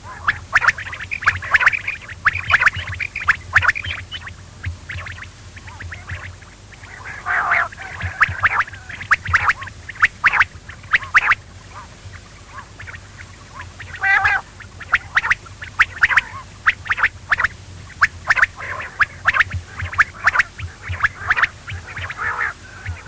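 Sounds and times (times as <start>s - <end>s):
quail calling: 0.0s - 23.0s.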